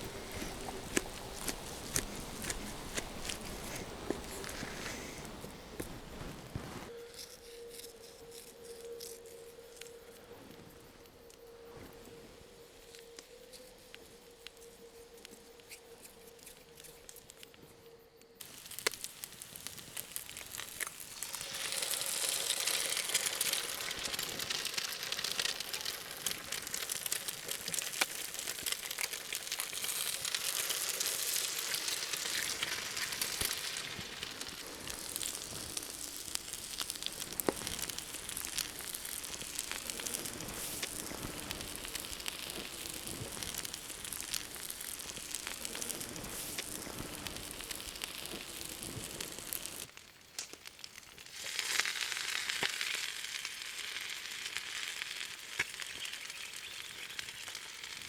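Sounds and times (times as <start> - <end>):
food sizzling and frying: 0.0 - 9.9, 18.4 - 58.0.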